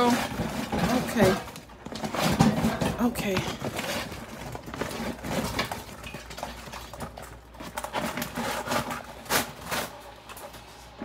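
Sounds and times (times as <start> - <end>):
crabs scrabbling in metal pot: 0.0 - 11.0
paper crinkling: 0.0 - 11.0.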